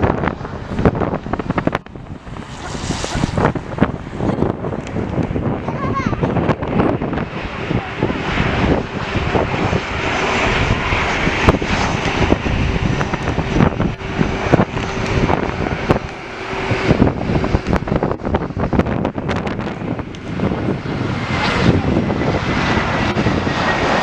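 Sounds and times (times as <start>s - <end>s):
airliner engines rushing: 0.0s - 24.0s
wind buffeting microphone: 0.0s - 24.0s.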